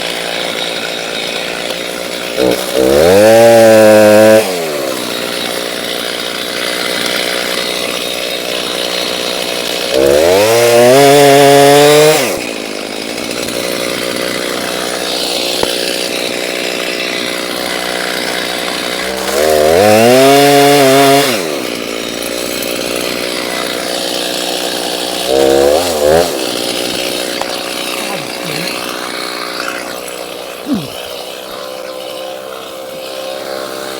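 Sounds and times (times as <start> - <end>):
chainsaw engine idling and revving: 0.0 - 33.9.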